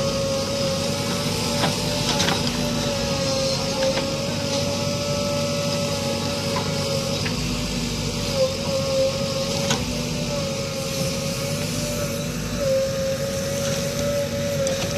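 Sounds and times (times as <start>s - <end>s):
constant engine whine: 0.0s - 14.9s
diesel engine running: 0.0s - 14.9s.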